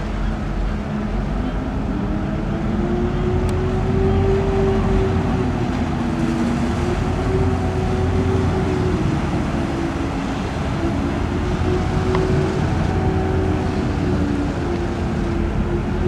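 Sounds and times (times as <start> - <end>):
ship engine rumble and drone: 0.0 - 16.0.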